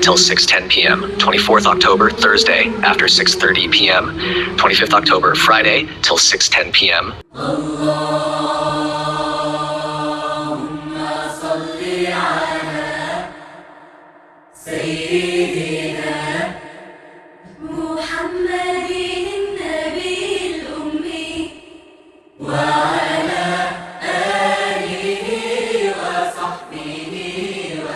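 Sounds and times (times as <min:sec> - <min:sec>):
unaccompanied vocal chanting: 0:00.0 - 0:27.9.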